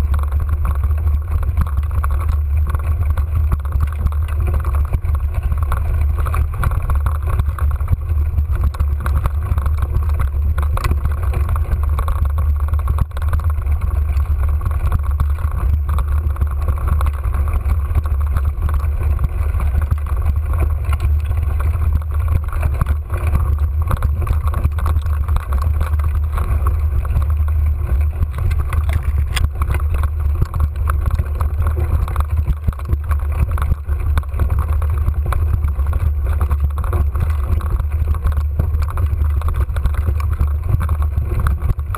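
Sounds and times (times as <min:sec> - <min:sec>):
bike knocks and rattles: 0:00.0 - 0:41.9
mountain bike rumbling: 0:00.0 - 0:41.9.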